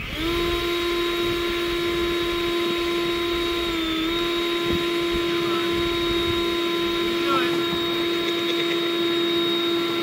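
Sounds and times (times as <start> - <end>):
leaf blower whining: 0.0 - 10.0.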